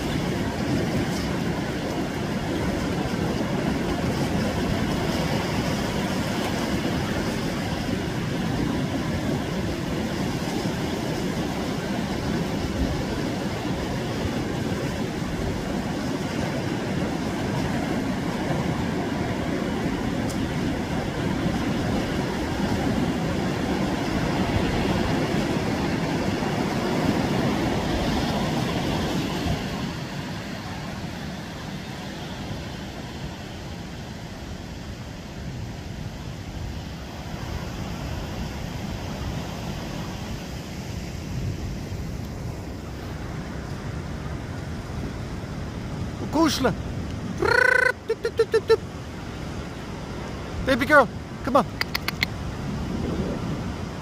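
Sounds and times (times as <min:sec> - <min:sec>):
surf washing onto beach: 0:00.0 - 0:54.0.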